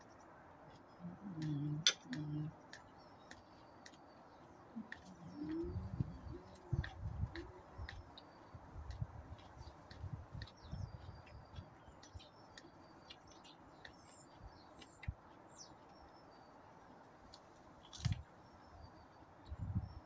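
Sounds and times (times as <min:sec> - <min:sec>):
small birds chirping: 0:00.0 - 0:20.0
close-up chewing: 0:00.6 - 0:19.6.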